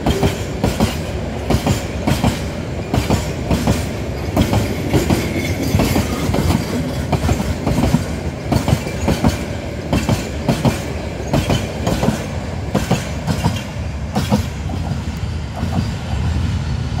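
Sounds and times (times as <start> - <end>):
train wheels clattering over rail joints: 0.0 - 16.1.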